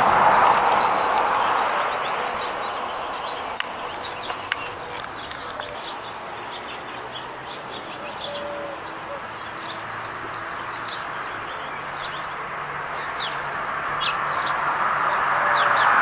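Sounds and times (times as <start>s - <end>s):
passing vehicle: 0.0s - 16.0s
small birds chirping: 0.4s - 15.9s.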